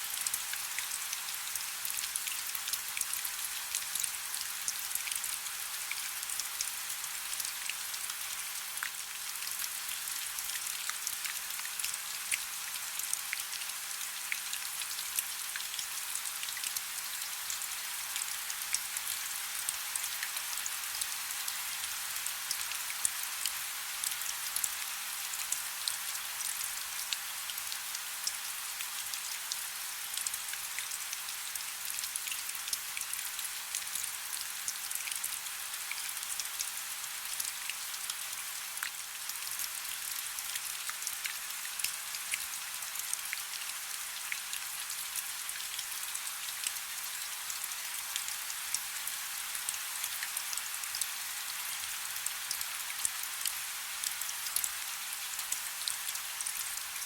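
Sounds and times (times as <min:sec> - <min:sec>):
soft steady rain: 0:00.0 - 0:57.0.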